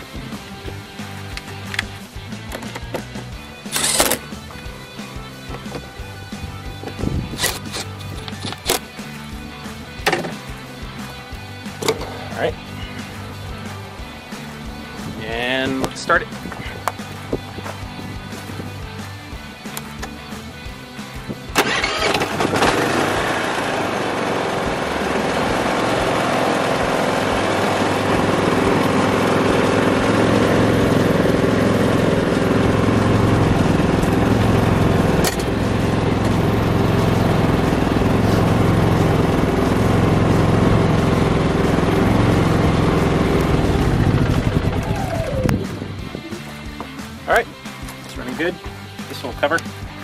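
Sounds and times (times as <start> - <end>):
generator engine winding down: 0.0 - 20.4, 21.5 - 47.8
generator engine running: 0.0 - 50.0.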